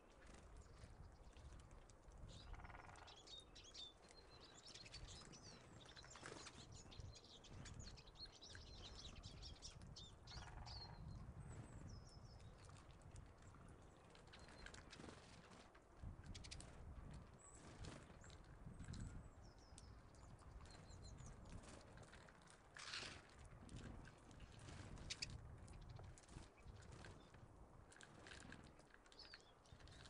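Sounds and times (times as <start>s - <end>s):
songbirds chirping: 0.0s - 15.6s, 16.2s - 30.0s.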